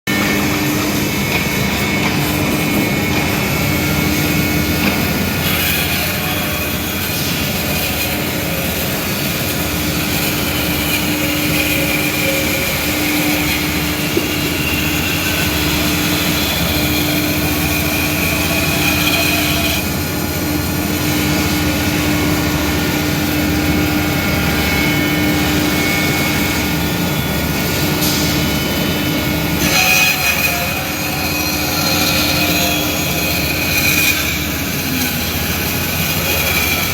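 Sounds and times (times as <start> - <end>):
scroll saw running: 0.1 - 36.9.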